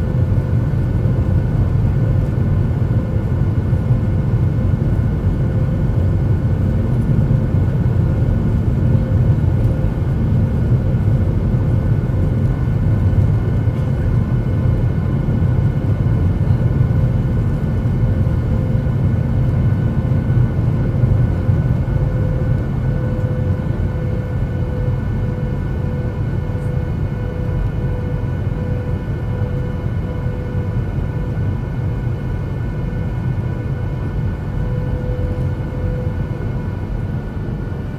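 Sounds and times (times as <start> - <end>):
airliner engines rumbling: 0.0 - 37.9.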